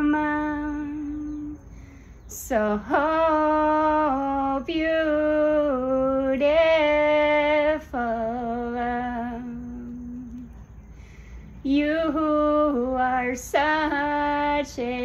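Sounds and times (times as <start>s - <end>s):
woman singing unaccompanied: 0.0s - 10.8s, 11.6s - 15.0s.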